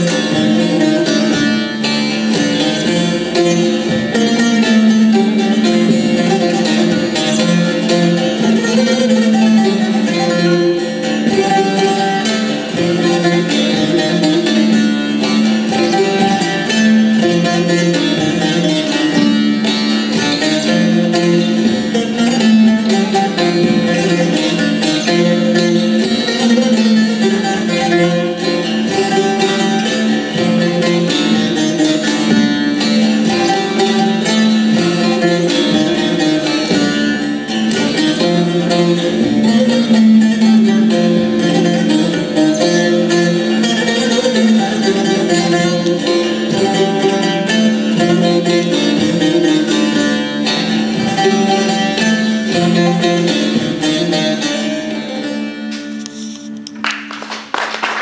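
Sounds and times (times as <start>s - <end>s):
lutes playing folk dance tune: 0.0s - 58.0s.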